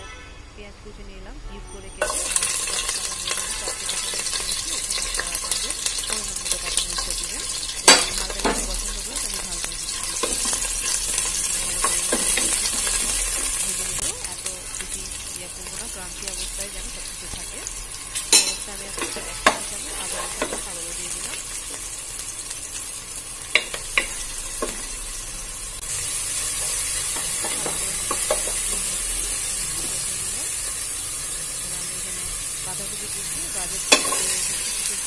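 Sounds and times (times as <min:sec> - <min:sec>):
food sizzling in hot oil: 0:01.9 - 0:35.0.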